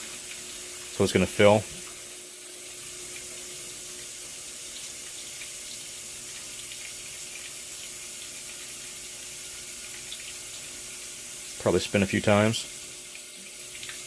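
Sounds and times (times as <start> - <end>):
faint steady hum: 0.0 - 14.0
water rushing into washer tub: 0.0 - 14.0.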